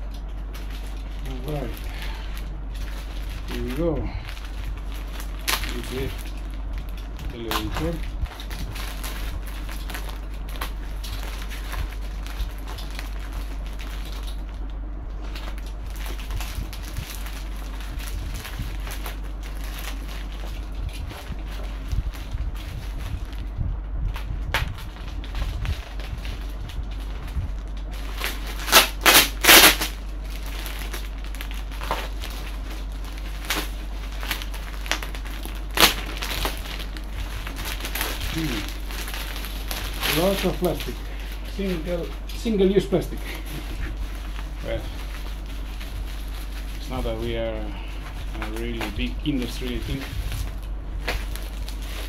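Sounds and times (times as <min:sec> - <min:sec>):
plastic bag crinkling: 0:00.0 - 0:52.0
loud ripping sounds: 0:00.4 - 0:52.0.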